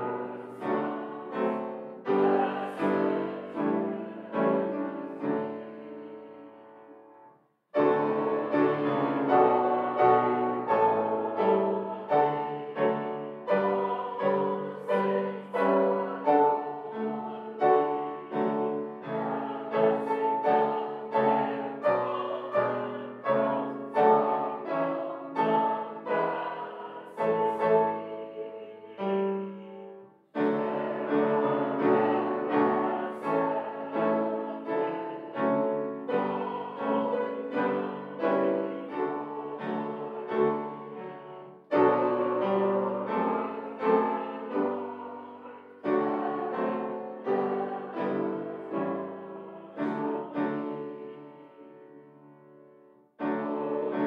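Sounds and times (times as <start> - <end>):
grand piano chords: 0.0 - 54.0.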